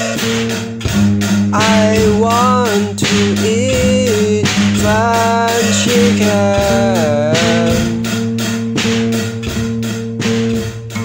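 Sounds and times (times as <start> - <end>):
song with guitar and beat: 0.0 - 11.0.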